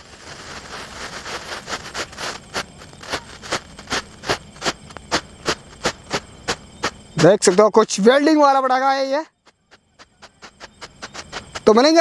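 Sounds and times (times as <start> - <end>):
firework fountain hissing and popping: 0.0 - 12.0.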